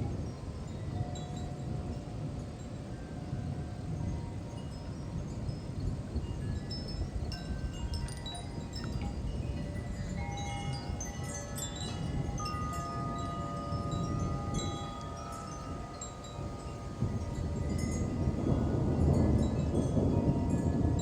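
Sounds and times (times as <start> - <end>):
low rush of wind: 0.0 - 21.0
wind chimes ringing: 0.0 - 21.0.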